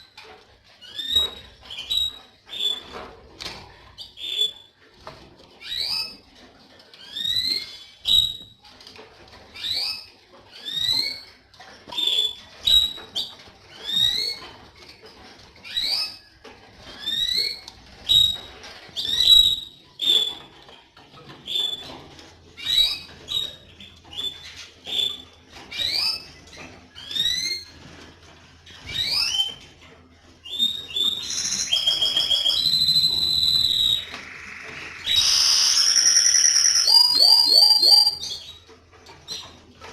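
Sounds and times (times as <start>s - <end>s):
canary chirping and trilling: 0.0s - 39.9s.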